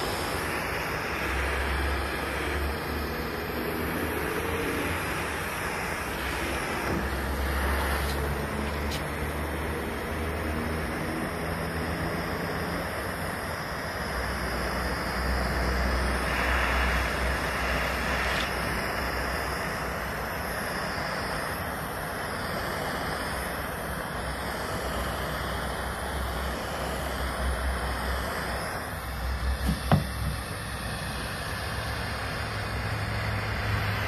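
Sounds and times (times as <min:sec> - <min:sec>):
propane torch hissing: 0:00.0 - 0:34.0.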